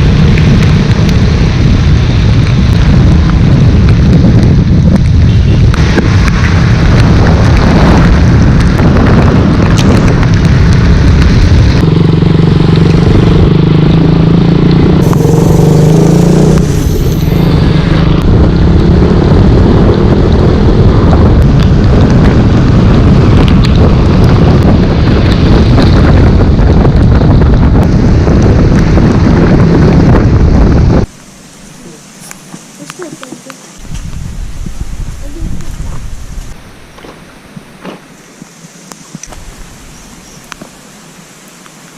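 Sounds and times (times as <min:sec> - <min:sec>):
wind buffeting microphone: 0:00.0 - 0:31.1, 0:31.7 - 0:38.1, 0:39.1 - 0:40.8
motorcycle engine drone: 0:00.0 - 0:41.9.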